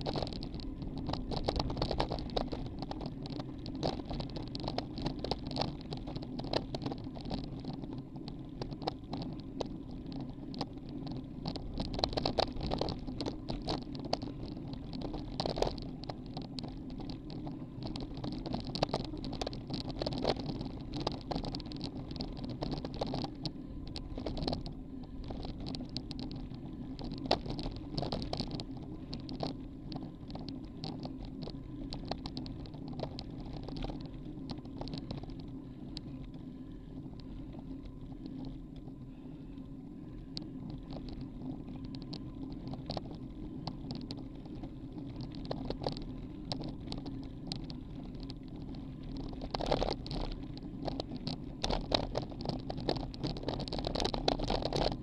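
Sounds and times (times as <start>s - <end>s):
bicycle clicks and rattles: 0.0s - 55.0s
bicycle tyres humming on road: 0.0s - 55.0s.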